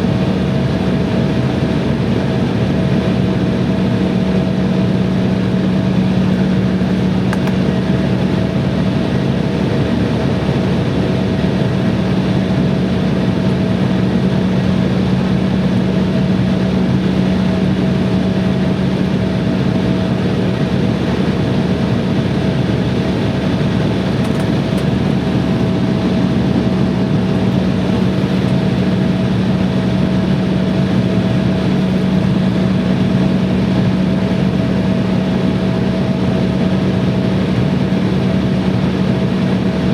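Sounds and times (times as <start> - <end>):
airliner cabin hum: 0.0 - 39.9.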